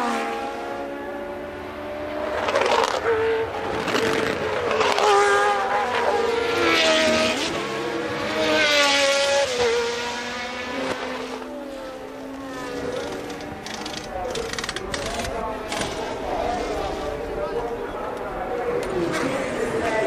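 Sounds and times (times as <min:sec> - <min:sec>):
race car engines at high revs: 0:00.0 - 0:20.0.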